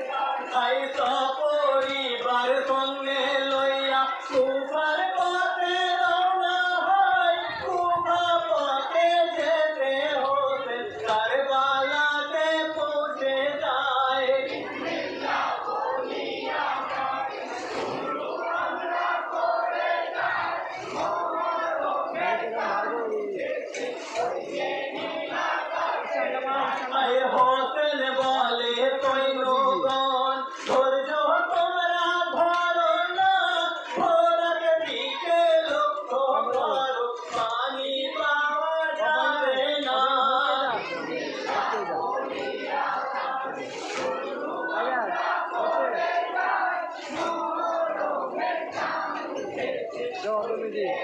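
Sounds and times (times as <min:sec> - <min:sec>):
man singing into microphone: 0:00.0 - 0:14.6, 0:21.0 - 0:24.4, 0:25.6 - 0:42.0, 0:43.1 - 0:51.0
boys singing in chorus: 0:00.0 - 0:51.0
male voices chanting: 0:00.0 - 0:51.0.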